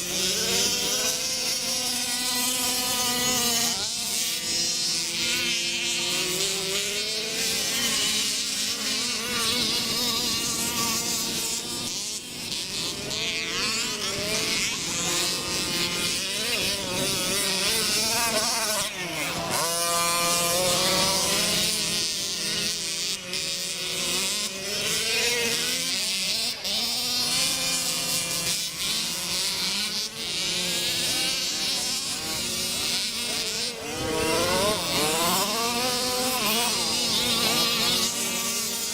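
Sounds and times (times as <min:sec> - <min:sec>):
racing buggy engines revving: 0:00.0 - 0:38.9.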